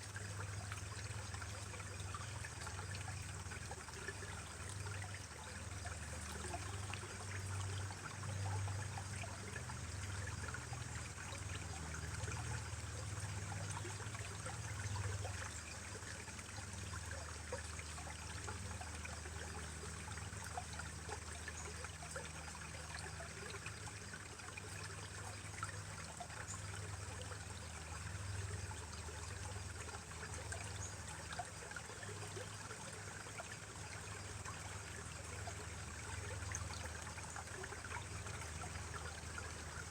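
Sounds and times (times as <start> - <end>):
mountain stream trickling: 0.0 - 39.9.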